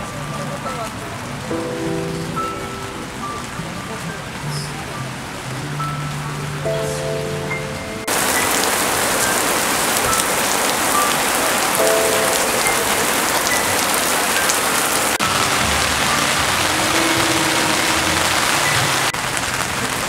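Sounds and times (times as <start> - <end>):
heavy rain on asphalt: 0.0 - 20.0
rain on tent fabric: 0.0 - 20.0.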